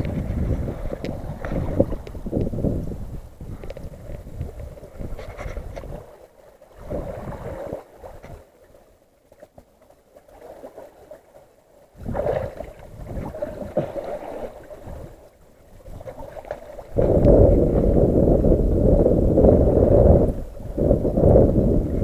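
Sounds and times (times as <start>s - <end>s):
wind buffeting microphone: 0.0s - 6.2s, 6.8s - 8.5s, 12.0s - 22.0s
water sloshing against rocks: 0.0s - 18.4s.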